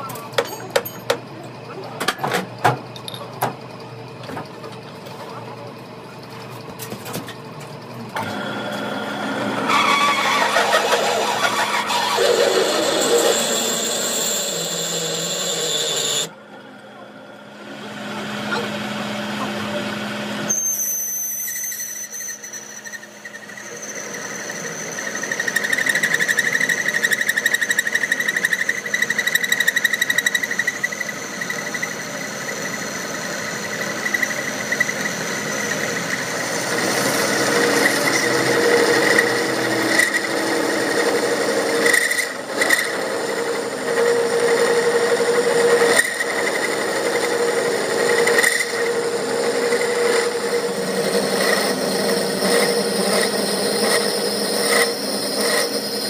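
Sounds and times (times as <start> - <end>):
metalworking machine cutting metal: 8.1 - 56.0.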